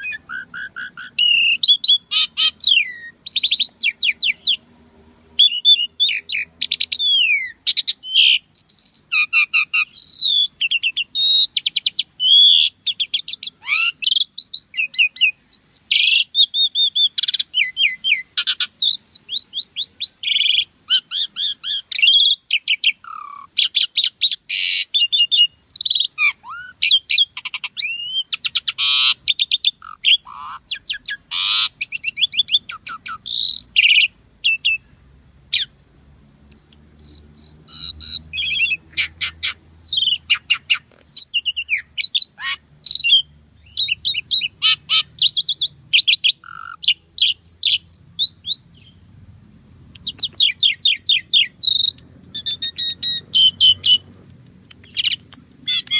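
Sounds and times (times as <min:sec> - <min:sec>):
starling singing: 0:00.0 - 0:35.8, 0:36.5 - 0:49.1, 0:50.0 - 0:55.9.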